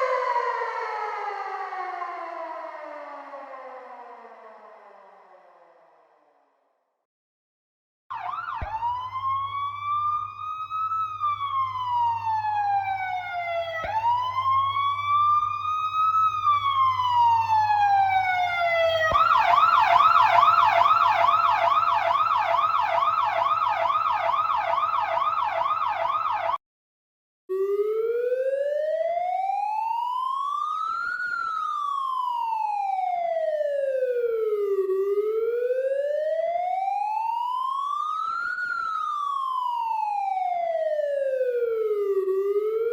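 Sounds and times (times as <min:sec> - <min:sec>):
emergency vehicle siren: 0:00.0 - 0:06.5, 0:08.1 - 0:26.6, 0:27.5 - 0:42.9.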